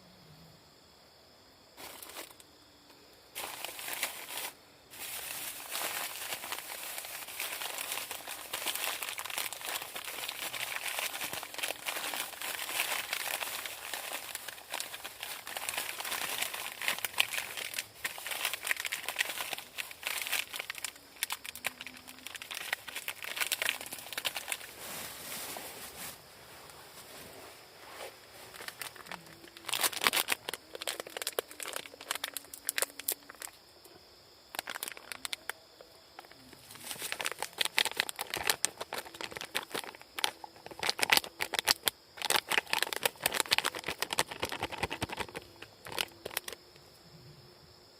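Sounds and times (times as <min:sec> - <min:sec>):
crinkly material rustling: 0:01.8 - 0:02.4, 0:03.4 - 0:33.6, 0:34.5 - 0:35.6, 0:36.2 - 0:46.6.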